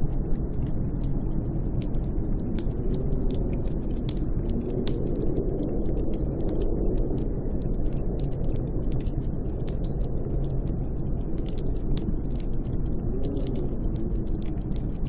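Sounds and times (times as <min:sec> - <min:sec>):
wind howling: 0:00.0 - 0:15.0.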